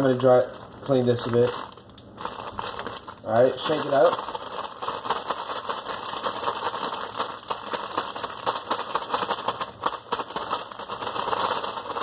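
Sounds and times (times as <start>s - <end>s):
bag crinkling with chips rattling: 0.0s - 12.0s.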